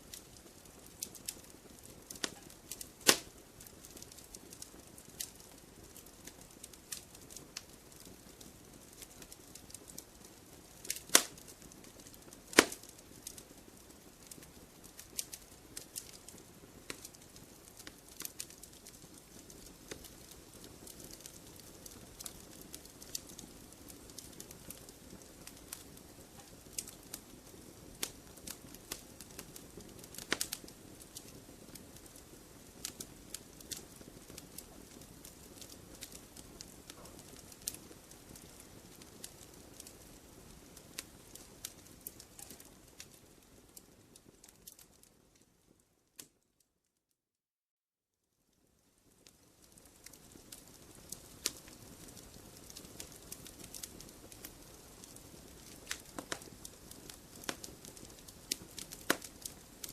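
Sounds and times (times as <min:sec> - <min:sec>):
fireplace fire crackling: 0:00.0 - 0:46.8, 0:48.3 - 0:59.9.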